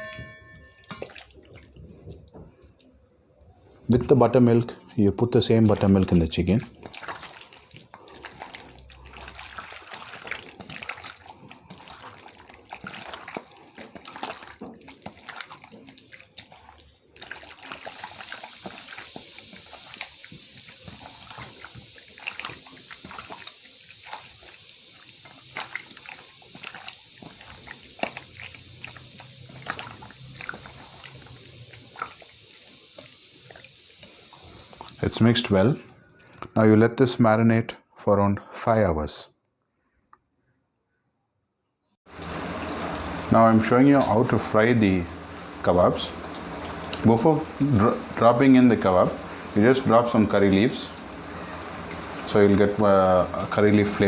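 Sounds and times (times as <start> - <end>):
wet squelching of hand mixing: 0.0 - 36.0, 42.1 - 54.0.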